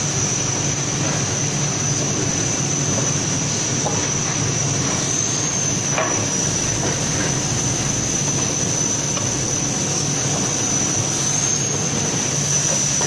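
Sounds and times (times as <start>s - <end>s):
binding machine running: 0.0s - 13.0s
high-pitched machine whine: 0.0s - 13.0s.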